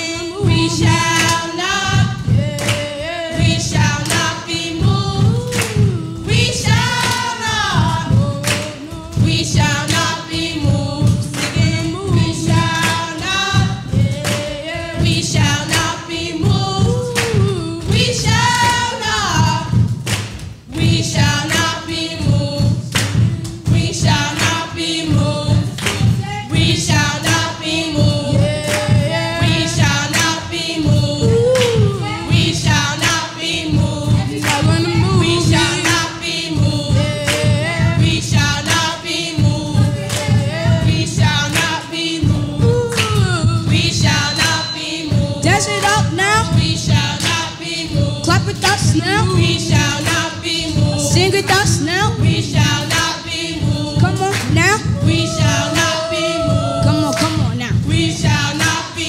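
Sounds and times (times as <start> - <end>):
children's choir singing gospel: 0.0 - 59.0
steady drum beat: 0.0 - 59.0.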